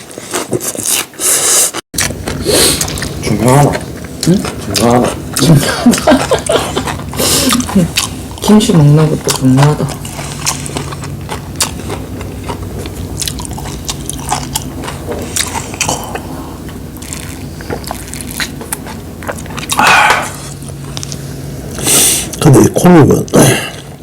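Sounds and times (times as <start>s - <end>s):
people chewing and crunching food: 0.0s - 24.0s
steady low hum: 2.0s - 24.0s.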